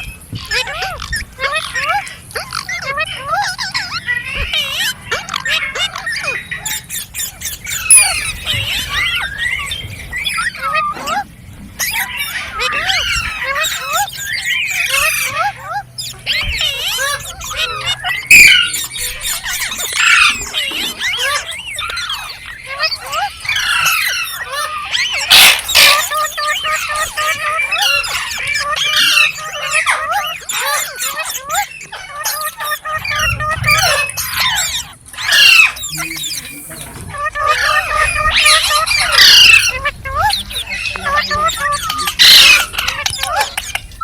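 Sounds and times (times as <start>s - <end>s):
parrots chirping and screeching: 0.0s - 44.0s.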